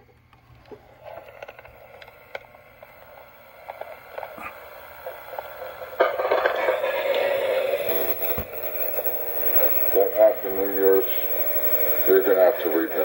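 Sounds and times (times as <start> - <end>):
tape hiss: 0.0 - 13.0.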